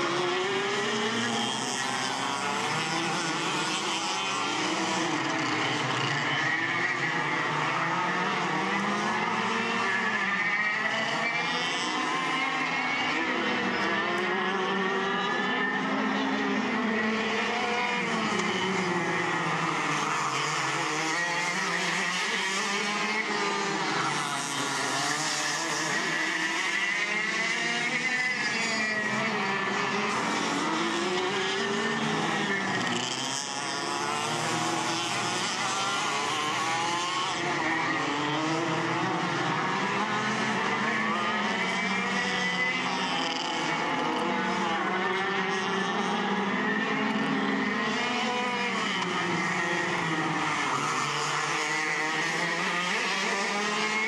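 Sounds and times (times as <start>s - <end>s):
go-kart engines racing: 0.0s - 54.0s.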